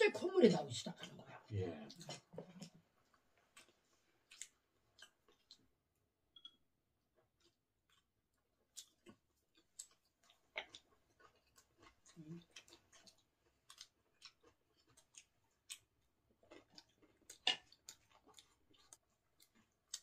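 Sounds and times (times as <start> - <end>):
chewing and mouth smacking: 1.9 - 5.7, 7.2 - 20.0.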